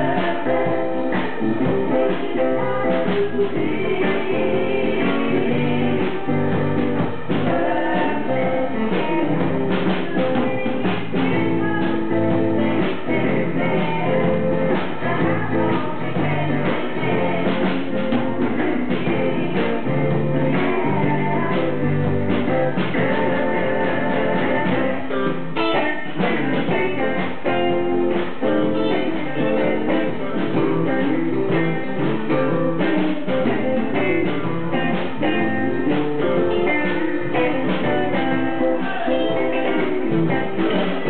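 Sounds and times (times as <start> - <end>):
drum kit beat: 0.0 - 41.0
electric guitar: 0.0 - 41.0
person singing: 0.0 - 41.0.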